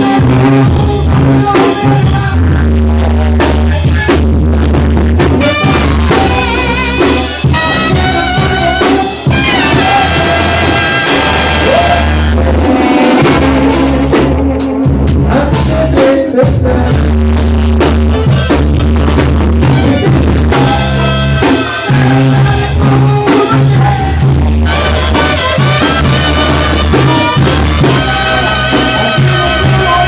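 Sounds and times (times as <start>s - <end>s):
loud music with drums and bass: 0.0s - 30.0s
drum hits: 4.0s - 16.6s, 17.6s - 30.0s.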